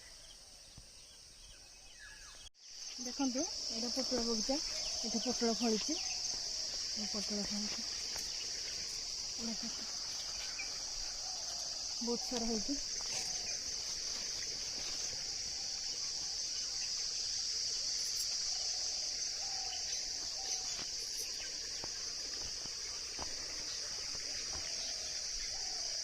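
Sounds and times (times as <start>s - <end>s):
high-pitched insect drone: 2.6s - 26.0s.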